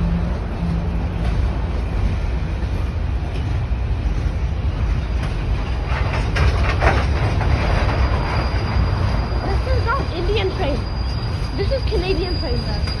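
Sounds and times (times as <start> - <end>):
train cars rumbling on rails: 0.0 - 13.0.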